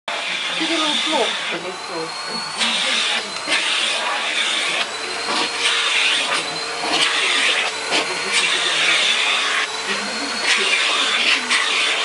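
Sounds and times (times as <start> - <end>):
vacuum cleaner running: 0.1 - 12.0.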